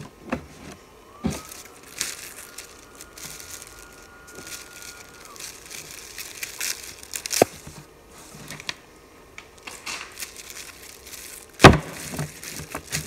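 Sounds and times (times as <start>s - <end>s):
plastic film crinkling: 1.1s - 8.8s, 9.4s - 13.0s.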